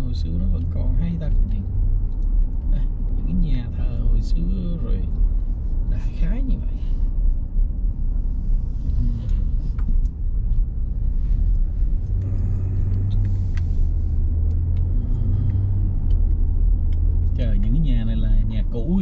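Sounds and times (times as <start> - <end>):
car engine and road rumble: 0.0 - 19.0
low hum: 0.0 - 19.0.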